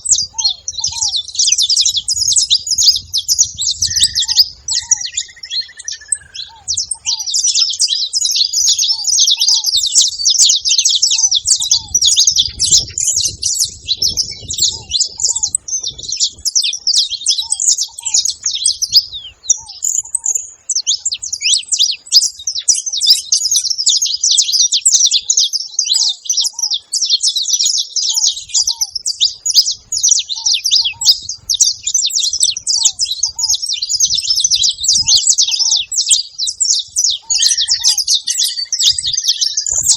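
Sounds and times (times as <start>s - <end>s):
finches chirping: 0.0s - 39.9s
ground doves calling: 0.0s - 39.9s.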